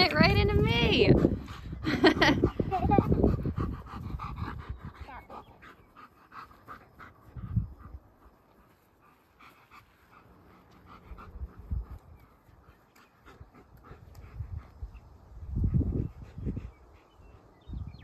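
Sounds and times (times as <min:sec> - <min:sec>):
dog panting: 0:00.1 - 0:18.0.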